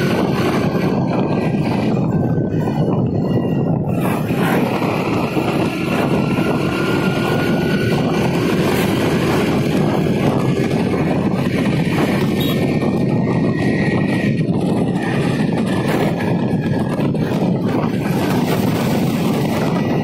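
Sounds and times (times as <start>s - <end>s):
motorbike engine running: 0.0s - 20.0s
road noise: 0.0s - 20.0s
wind rushing on microphone: 0.0s - 20.0s.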